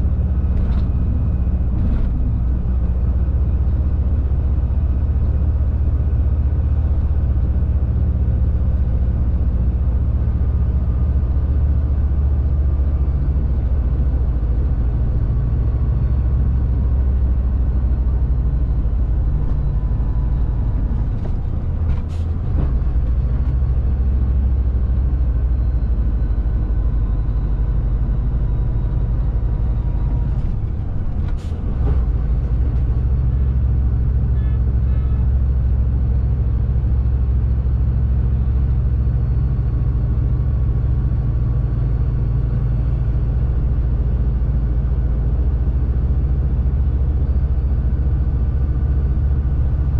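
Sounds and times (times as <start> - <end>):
truck diesel engine running: 0.0 - 49.9.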